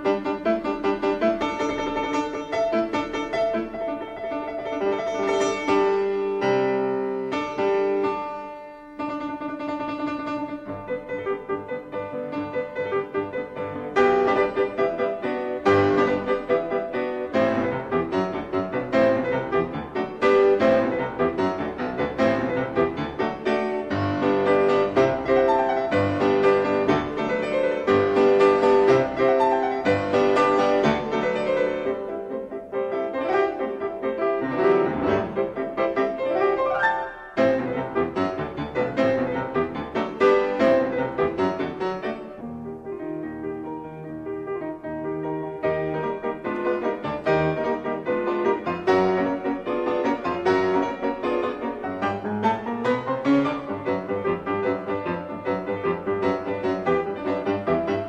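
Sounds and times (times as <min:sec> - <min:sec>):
classical piano music: 0:00.0 - 0:58.0.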